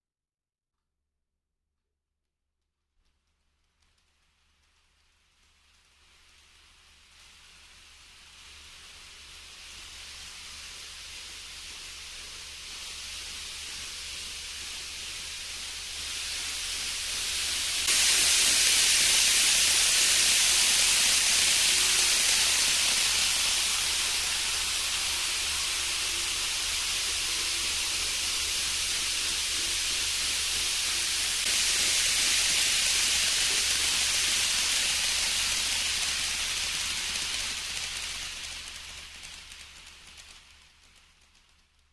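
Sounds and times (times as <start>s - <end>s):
model train running on track: 3.7s - 41.9s.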